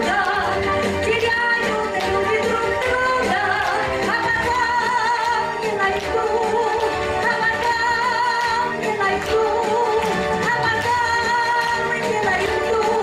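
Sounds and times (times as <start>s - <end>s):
pop song playing: 0.0s - 13.0s.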